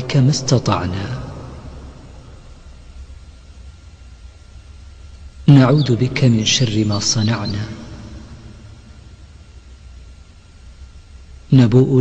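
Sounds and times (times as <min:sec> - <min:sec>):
low rumble: 0:00.0 - 0:09.7
background hiss: 0:00.0 - 0:12.0.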